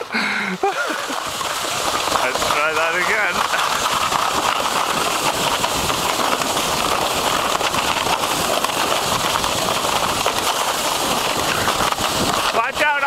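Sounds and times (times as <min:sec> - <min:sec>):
sled sliding on snow: 0:00.0 - 0:13.0.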